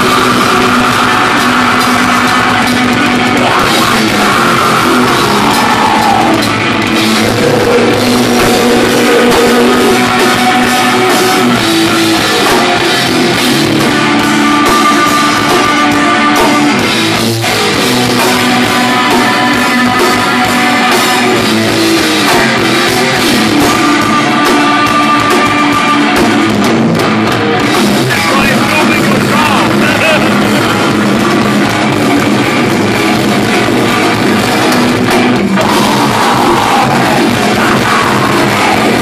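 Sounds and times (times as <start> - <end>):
distorted electric guitar: 0.0 - 39.0
drum kit: 0.0 - 39.0.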